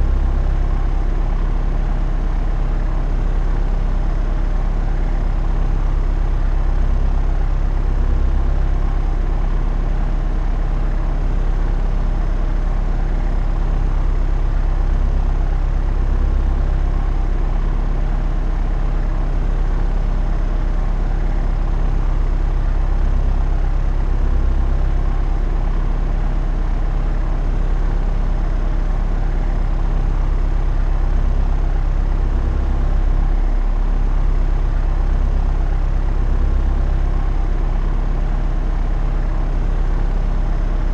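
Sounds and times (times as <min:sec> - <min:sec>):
propeller aircraft drone: 0:00.0 - 0:40.9.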